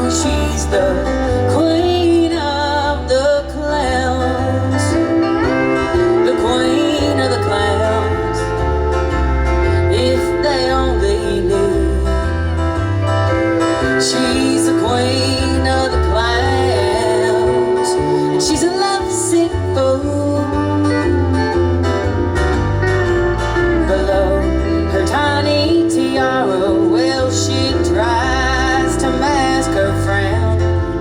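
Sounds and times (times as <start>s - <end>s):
country band music: 0.0s - 31.0s
guitar: 0.0s - 31.0s
pulsing bass line: 0.0s - 31.0s
sliding lead melody: 0.0s - 31.0s.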